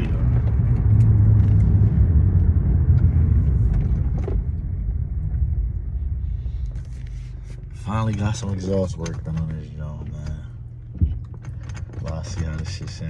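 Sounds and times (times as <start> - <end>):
car exhaust rumble accelerating: 0.0 - 13.0.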